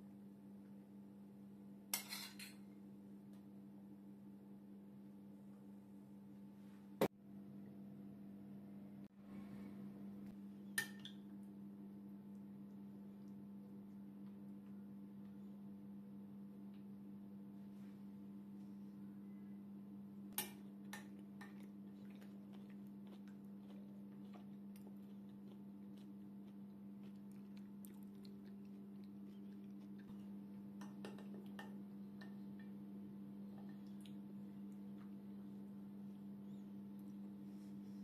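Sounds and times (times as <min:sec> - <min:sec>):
steady low hum: 0:02.6 - 0:38.0.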